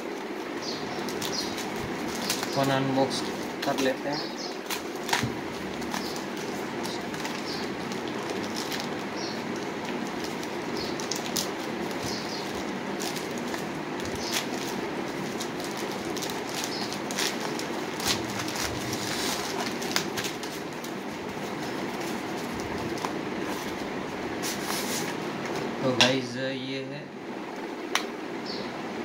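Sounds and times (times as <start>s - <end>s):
plastic mailer crinkling: 0.1s - 25.6s.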